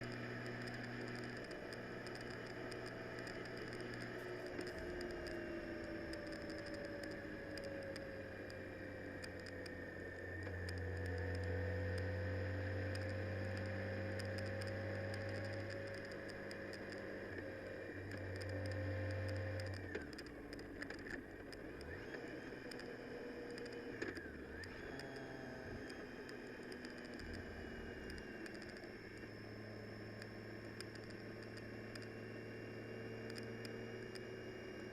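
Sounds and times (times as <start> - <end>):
small clicks: 0.0 - 34.9
vehicle engine and road noise: 0.0 - 34.9.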